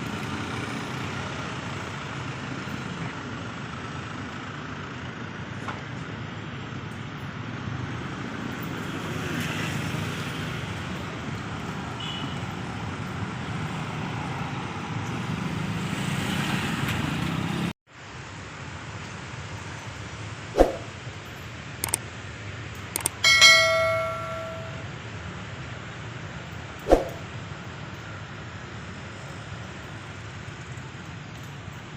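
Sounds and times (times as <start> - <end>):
rumble of moving vehicles: 0.0 - 31.9.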